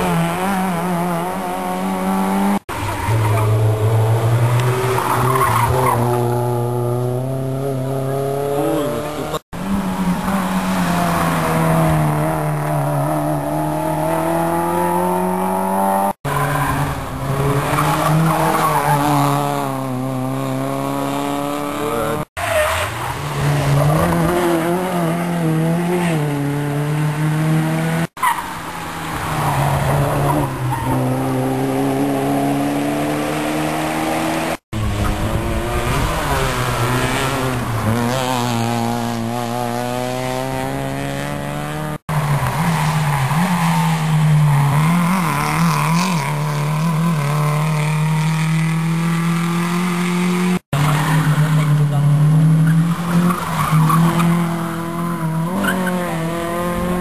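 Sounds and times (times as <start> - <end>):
rally car engines revving past: 0.0 - 57.0.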